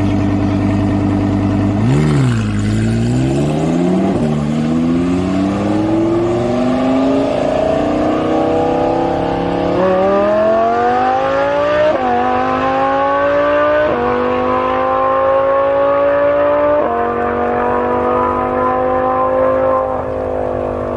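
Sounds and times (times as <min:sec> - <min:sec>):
sports car accelerating hard: 0:00.0 - 0:20.9.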